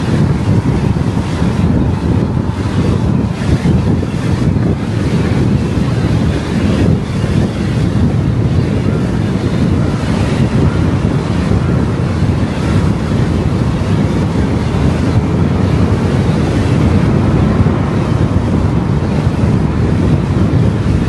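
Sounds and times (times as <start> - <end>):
road noise low rumble: 0.0 - 21.0
wind hiss: 0.0 - 21.0.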